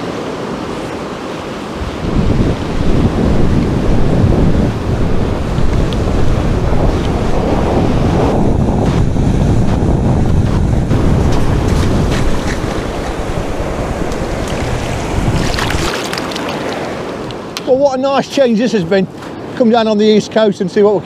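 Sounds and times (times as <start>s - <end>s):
wind buffeting microphone: 0.0s - 20.1s
waves breaking on beach: 0.0s - 21.0s.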